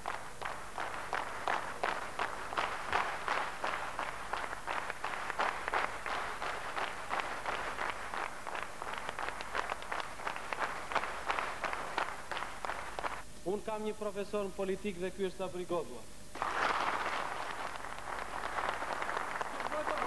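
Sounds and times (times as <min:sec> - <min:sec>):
audience clapping in unison: 0:00.0 - 0:13.2, 0:16.3 - 0:20.0.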